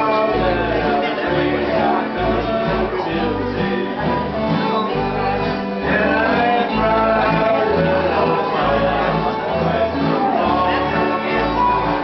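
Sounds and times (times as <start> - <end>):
acoustic guitars strumming: 0.0 - 12.0
fiddles: 0.0 - 12.0
upright bass notes: 0.0 - 12.0.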